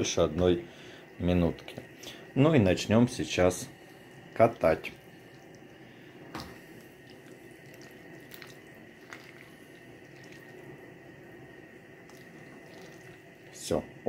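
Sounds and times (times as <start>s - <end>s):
low hiss: 0.0s - 14.0s
sauce bubbling: 0.7s - 14.0s.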